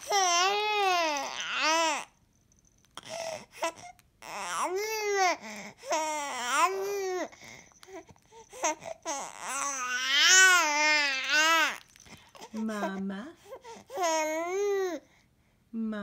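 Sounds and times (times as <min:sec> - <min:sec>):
infant crying: 0:00.0 - 0:02.1, 0:03.0 - 0:15.1.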